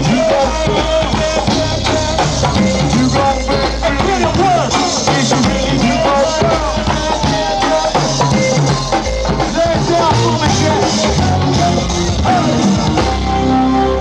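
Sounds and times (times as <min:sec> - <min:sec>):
drum kit and percussion beat: 0:00.0 - 0:14.0
voices singing over band: 0:00.0 - 0:14.0.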